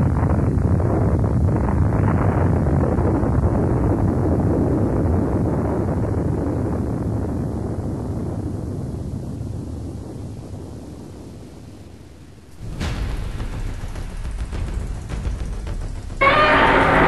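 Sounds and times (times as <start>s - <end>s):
deep rumbling noise: 0.0s - 17.0s.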